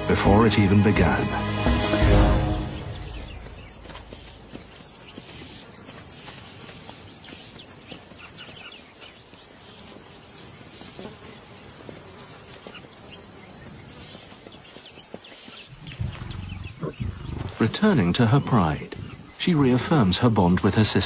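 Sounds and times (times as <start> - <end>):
insects chirping: 2.5 - 21.0.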